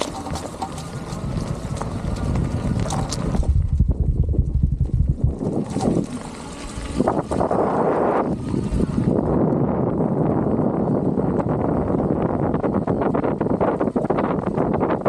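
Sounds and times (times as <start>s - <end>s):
bike tyres rolling on gravel: 0.0s - 15.0s
wind buffeting microphone: 0.0s - 15.0s.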